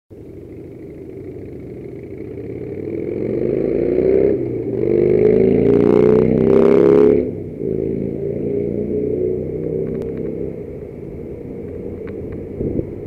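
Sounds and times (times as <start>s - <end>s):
motor vehicle engine accelerating: 0.2s - 13.0s
vehicle rushing past: 2.4s - 13.0s.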